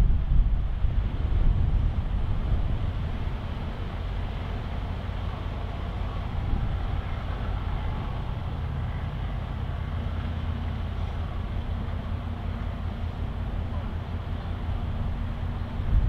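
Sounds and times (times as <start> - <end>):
harbour noise: 0.0 - 16.0
wind hiss: 0.0 - 16.0
ship engines humming: 0.6 - 16.0.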